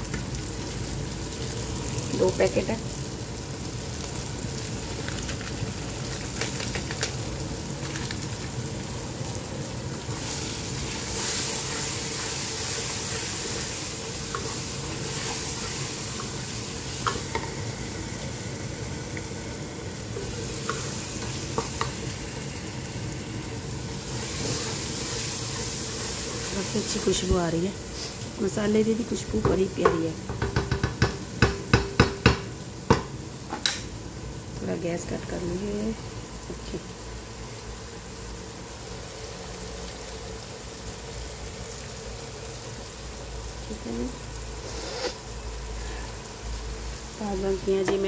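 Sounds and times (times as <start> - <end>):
masala sizzling in pan: 0.0 - 48.0.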